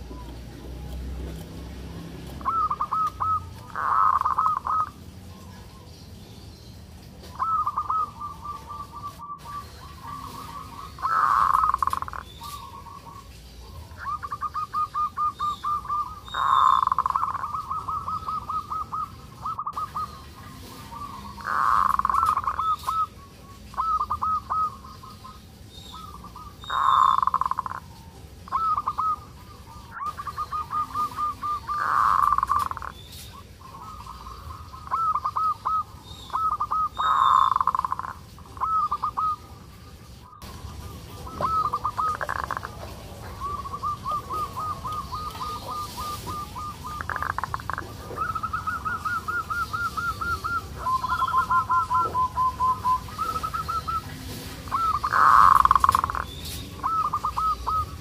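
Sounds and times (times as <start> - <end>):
dove calling: 0.0 - 58.0.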